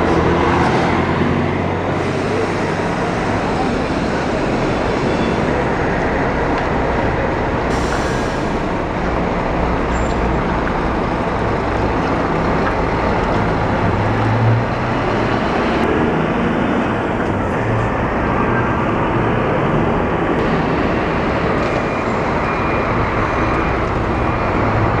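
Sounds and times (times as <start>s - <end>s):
diesel coach engine running: 0.0s - 25.0s
road and traffic noise: 0.0s - 25.0s.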